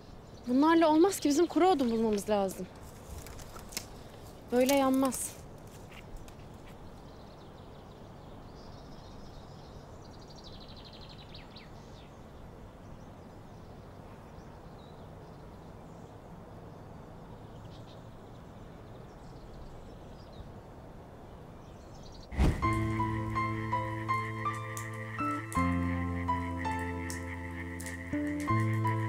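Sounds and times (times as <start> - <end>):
low background hiss: 0.0 - 29.0.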